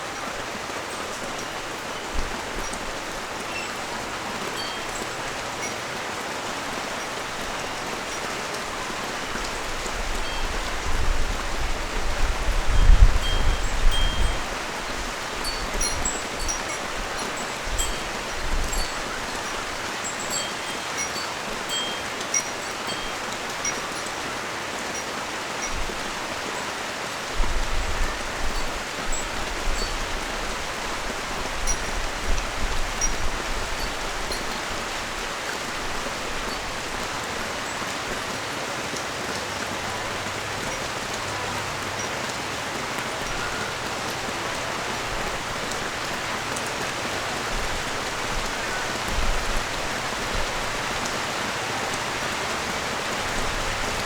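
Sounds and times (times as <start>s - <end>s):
rain falling on a street: 0.0s - 54.0s.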